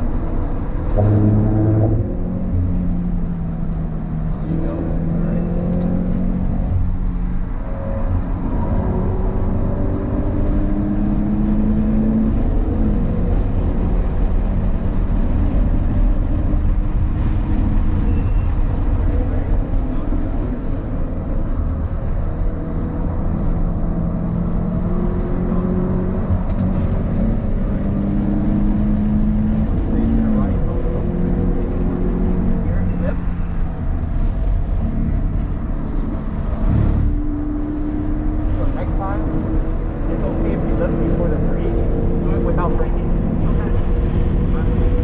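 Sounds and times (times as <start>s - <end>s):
car engine accelerating: 0.0s - 45.0s
road and wind noise: 0.0s - 45.0s.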